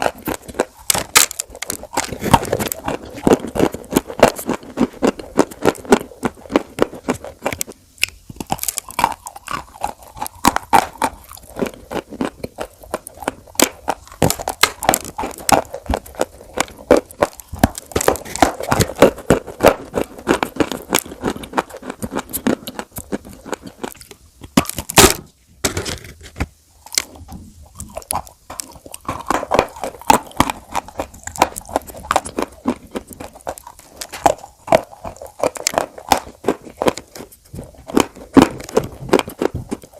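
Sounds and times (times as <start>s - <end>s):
crunchy food being chewed: 0.0s - 39.9s.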